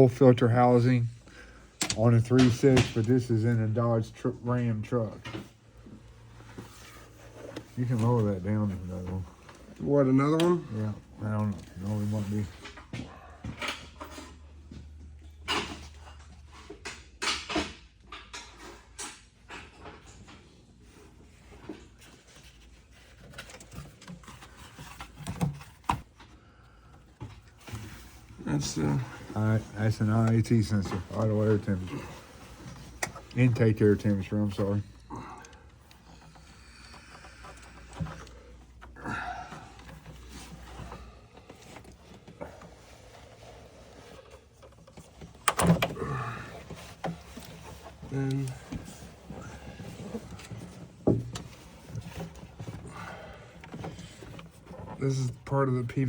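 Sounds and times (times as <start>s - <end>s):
tools and parts clicking and rattling: 1.7s - 4.2s, 6.2s - 55.3s.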